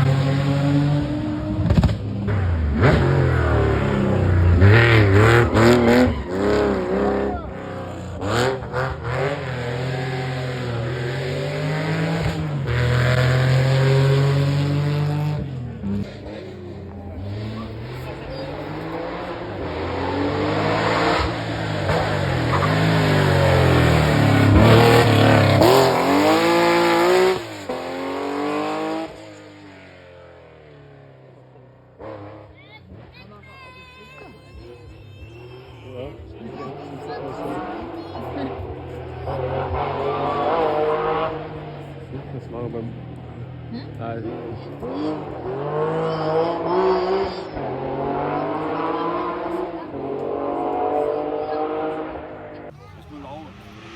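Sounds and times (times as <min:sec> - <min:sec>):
rally car engine revving: 0:00.0 - 0:33.5, 0:34.3 - 0:53.9.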